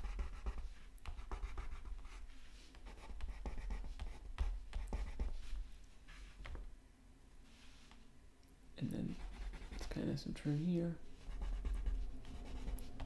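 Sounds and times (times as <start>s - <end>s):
crayon scratching on paper: 0.0s - 6.4s, 8.8s - 13.0s.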